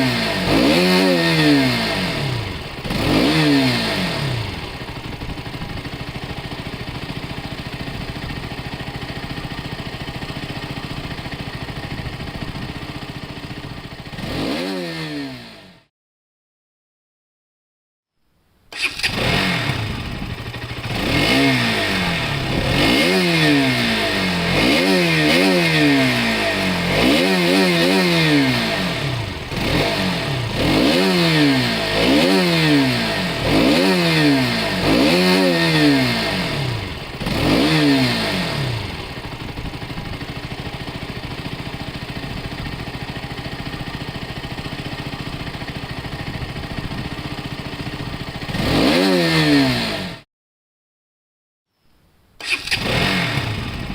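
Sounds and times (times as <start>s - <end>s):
motorcycle engine idling: 0.0s - 14.5s, 18.8s - 48.7s, 52.4s - 53.9s
motorcycle engine revving: 0.0s - 15.9s, 18.7s - 50.3s, 52.4s - 53.9s.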